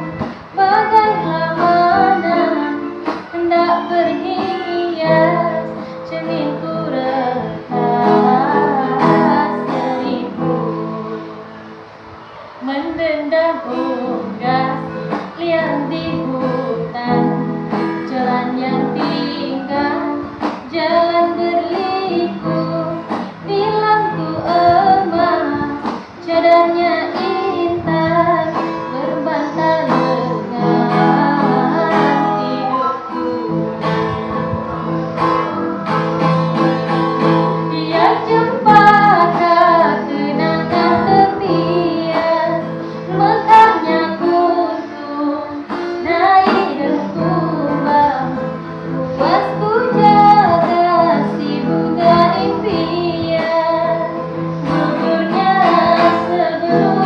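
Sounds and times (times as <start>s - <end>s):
girl singing: 0.0s - 57.0s
plucked guitar: 0.0s - 57.0s.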